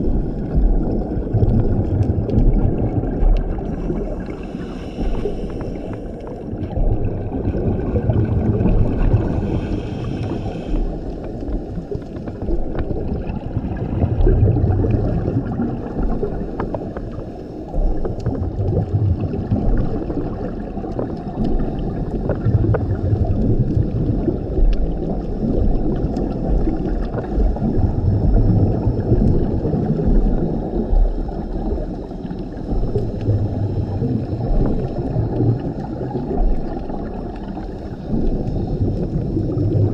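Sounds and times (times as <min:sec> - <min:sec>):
regulator exhale bubbling: 0:00.0 - 0:39.9
underwater wash: 0:00.0 - 0:39.9.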